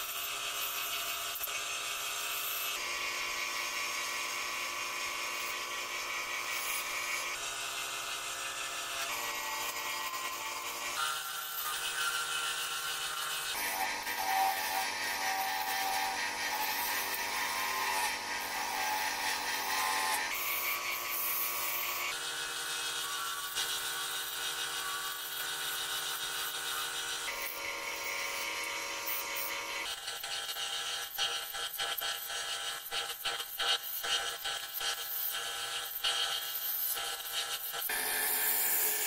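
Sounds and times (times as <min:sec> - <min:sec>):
wood lathe hum: 0:00.0 - 0:31.5, 0:37.9 - 0:39.0
gouge cutting spinning wood: 0:00.0 - 0:39.0.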